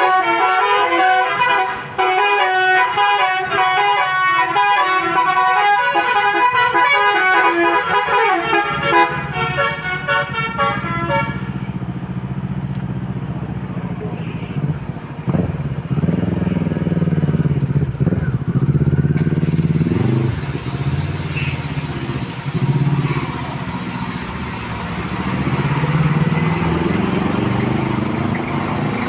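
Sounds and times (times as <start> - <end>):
vehicle engines revving: 0.0 - 29.0.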